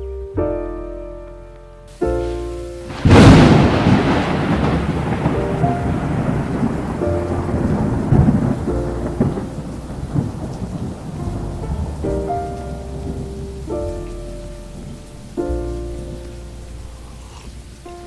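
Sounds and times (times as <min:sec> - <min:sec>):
soft music chords: 0:00.0 - 0:18.0
steady rain: 0:01.4 - 0:18.0
thunder rumbling: 0:02.1 - 0:18.0.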